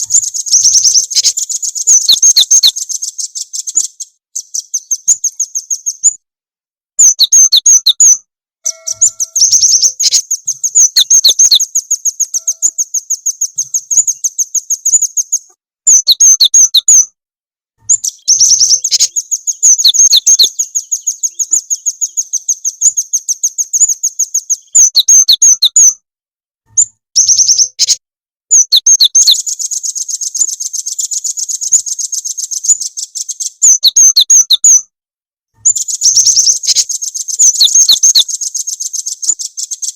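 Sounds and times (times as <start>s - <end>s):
songbird trilling: 0.0s - 6.2s, 7.0s - 17.1s, 17.8s - 26.0s, 26.8s - 34.8s, 35.6s - 39.9s.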